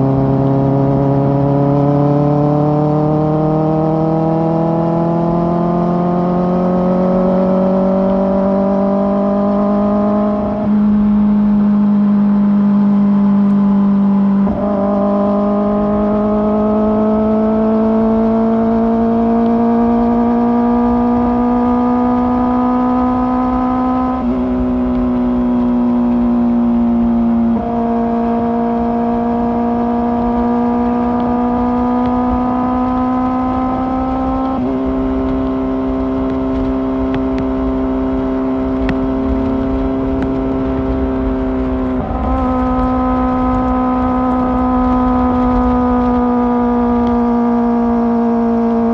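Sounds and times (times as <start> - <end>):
gear changes: 0.0 - 48.9
motorcycle engine accelerating: 0.0 - 48.9.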